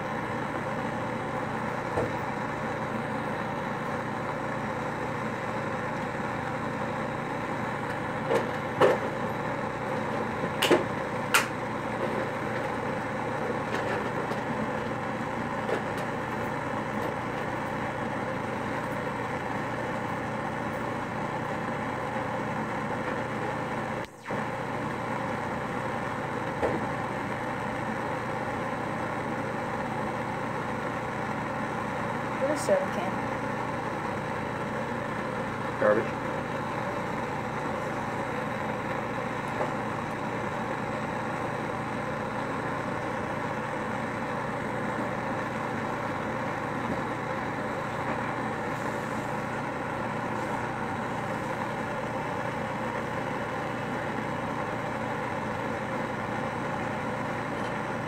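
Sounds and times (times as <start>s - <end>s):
gas torch roaring: 0.0s - 58.0s.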